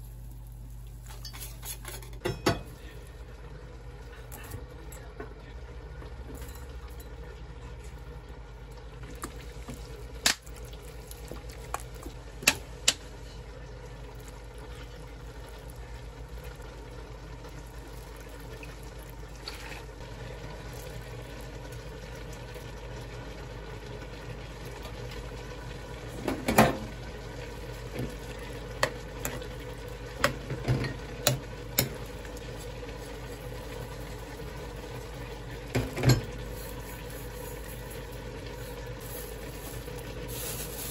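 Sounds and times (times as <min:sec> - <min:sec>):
low background hum: 0:00.0 - 0:40.9.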